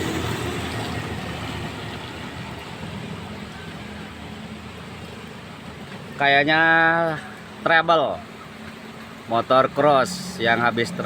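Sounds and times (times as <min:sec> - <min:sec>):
vehicle on wet road: 0:00.0 - 0:11.0.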